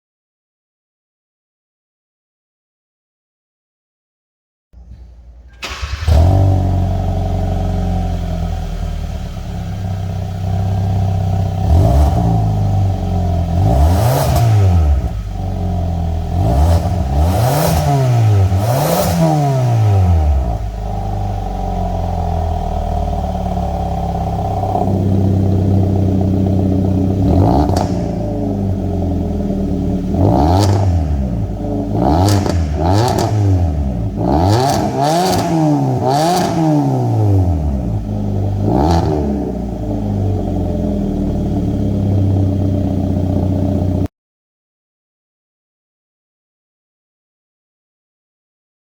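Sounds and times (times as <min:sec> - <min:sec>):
car engine idling and revving: 0:04.8 - 0:44.1.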